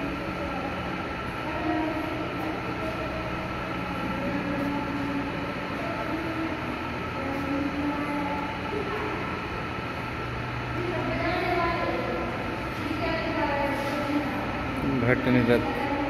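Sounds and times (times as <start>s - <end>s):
droning room hum: 0.0s - 16.0s.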